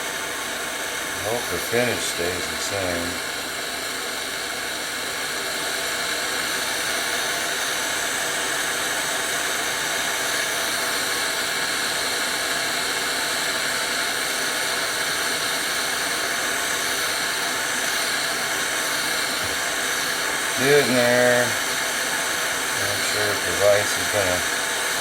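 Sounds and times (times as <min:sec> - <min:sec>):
gas torch flame hissing: 0:00.0 - 0:25.0.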